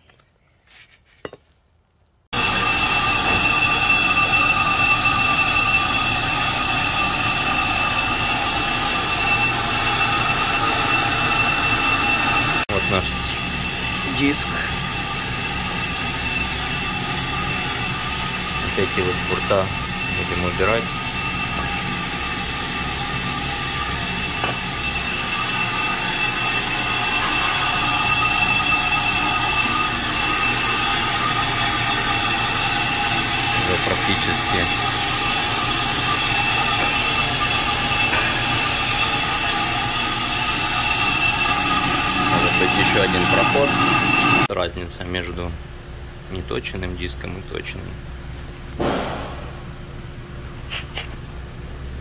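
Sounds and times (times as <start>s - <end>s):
brake lathe cutting hiss: 2.3s - 44.5s
high ringing tones: 2.3s - 44.5s.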